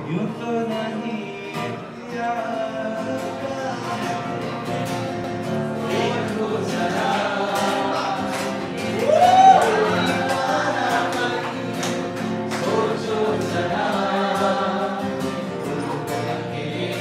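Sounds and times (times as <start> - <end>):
man singing: 0.0 - 4.8, 5.5 - 12.0, 12.6 - 17.0
acoustic guitar: 0.0 - 17.0.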